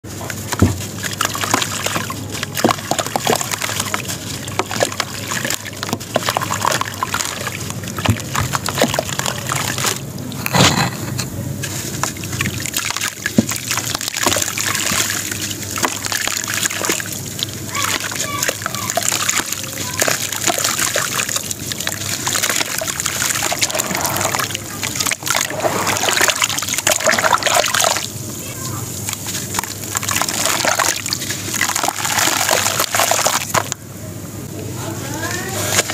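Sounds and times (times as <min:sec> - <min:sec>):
grit splashing into water: 0:00.3 - 0:10.0, 0:11.8 - 0:28.1, 0:29.0 - 0:33.8.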